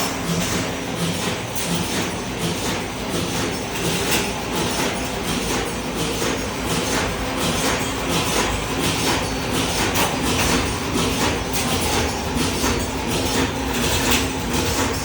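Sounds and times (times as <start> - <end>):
constant motor hum: 0.0 - 15.0
rhythmic machine clatter: 0.0 - 15.0.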